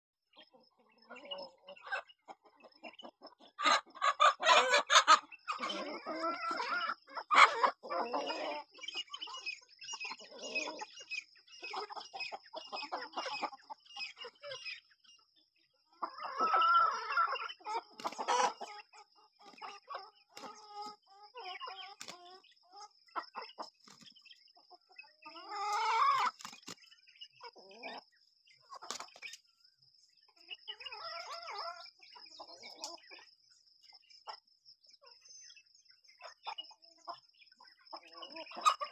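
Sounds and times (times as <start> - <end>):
chickens clucking: 0.3 - 38.9.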